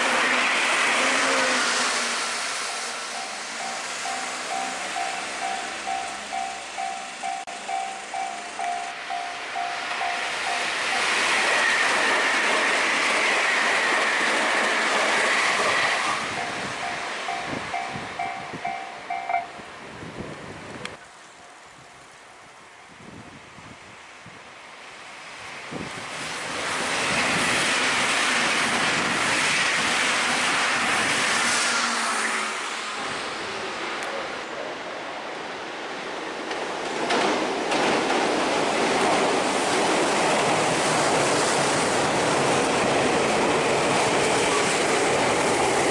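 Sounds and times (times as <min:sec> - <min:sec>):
train wheels rushing on rail: 0:00.0 - 0:21.0, 0:25.0 - 0:45.9.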